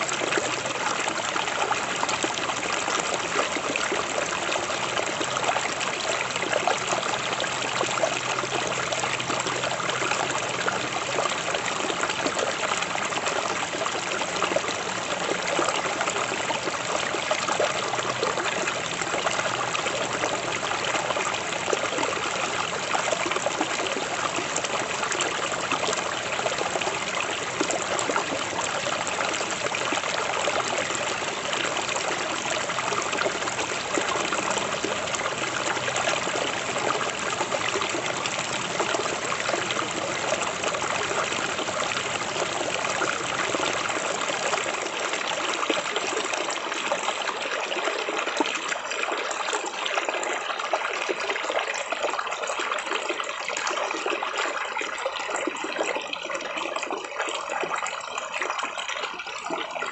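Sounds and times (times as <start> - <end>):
stream babbling and splashing: 0.0 - 59.9.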